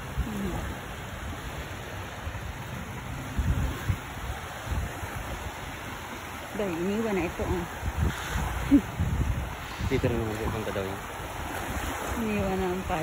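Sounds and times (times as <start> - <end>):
waves washing onto beach: 0.0 - 13.0.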